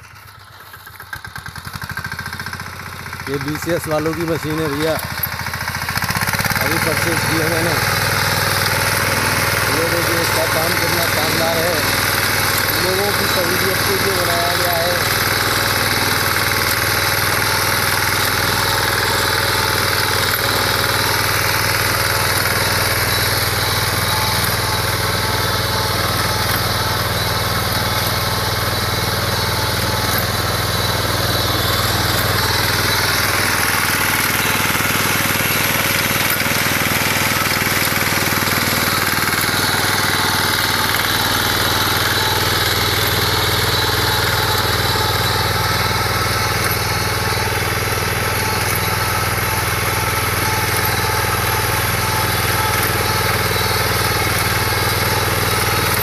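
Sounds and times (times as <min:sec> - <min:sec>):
reaper binder engine running: 0:00.0 - 0:56.0.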